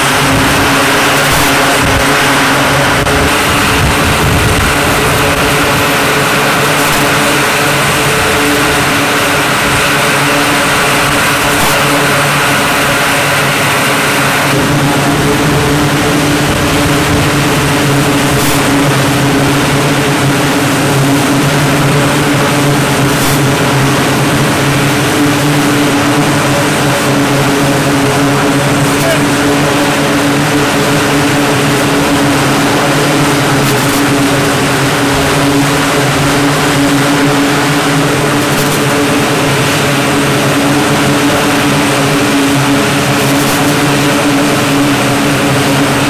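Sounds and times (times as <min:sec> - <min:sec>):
aircraft machinery roar: 0:00.0 - 0:46.0.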